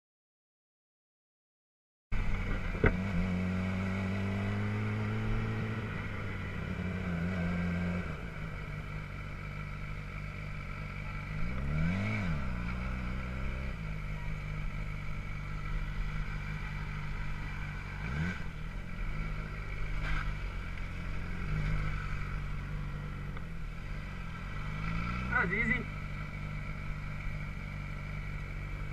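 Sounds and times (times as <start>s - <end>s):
motorcycle engine revving: 2.2s - 28.9s.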